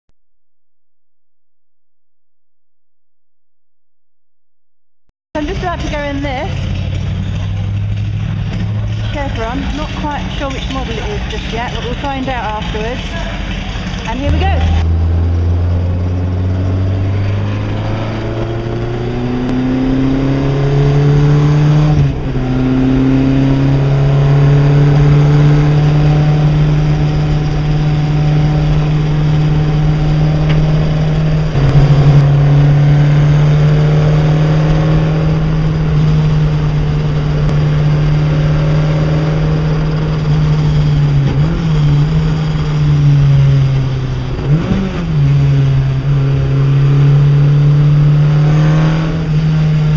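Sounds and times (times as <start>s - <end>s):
racing car engine at full throttle: 5.4s - 49.9s
wind and road noise: 5.4s - 49.9s.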